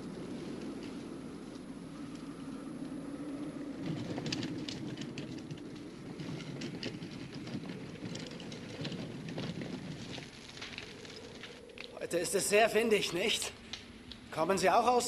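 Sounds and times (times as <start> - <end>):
sharp crackles and rattles: 0.0 - 15.0
strong wind blowing: 0.0 - 15.0.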